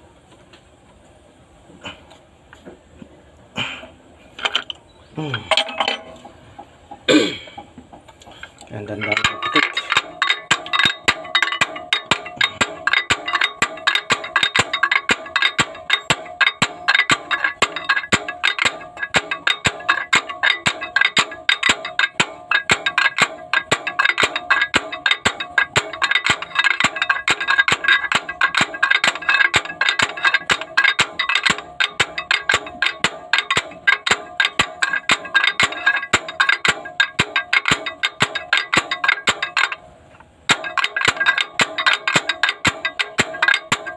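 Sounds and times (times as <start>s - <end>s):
slide hammer clanking metal knocks: 5.4s - 7.1s, 7.9s - 39.8s, 40.5s - 43.9s.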